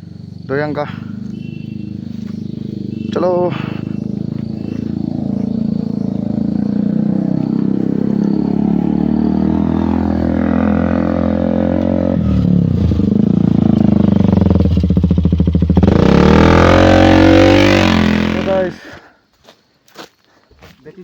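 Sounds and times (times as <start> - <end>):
motorcycle engine accelerating: 0.0 - 18.8.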